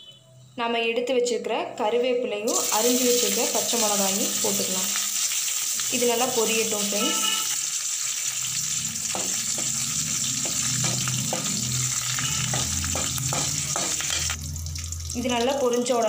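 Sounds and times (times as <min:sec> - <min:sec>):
leaves sizzling in hot oil: 0:02.5 - 0:16.0.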